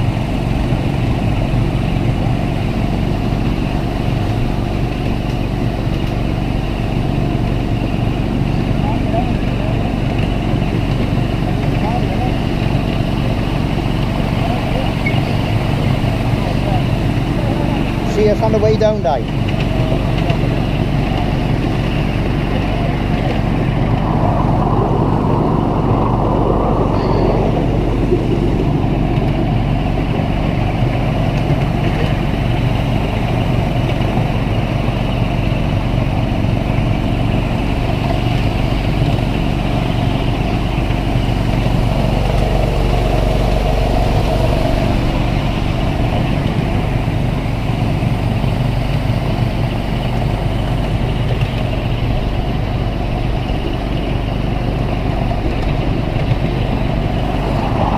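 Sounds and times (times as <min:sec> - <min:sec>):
miniature train rumbling: 0:00.0 - 0:57.9.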